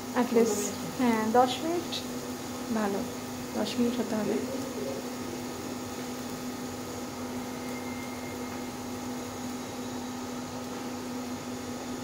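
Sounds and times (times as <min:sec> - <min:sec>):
gas stove burner hissing: 0:00.0 - 0:12.0
steady low hum: 0:00.0 - 0:12.0.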